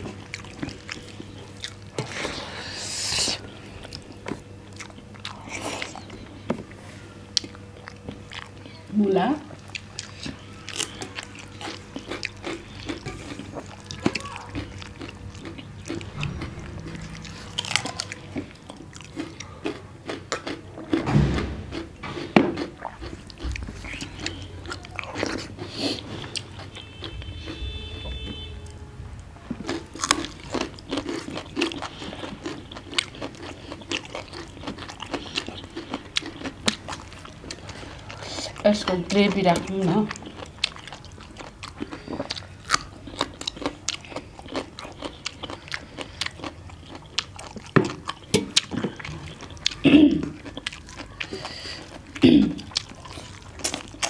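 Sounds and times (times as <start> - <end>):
people chewing and smacking: 0.0 - 54.0.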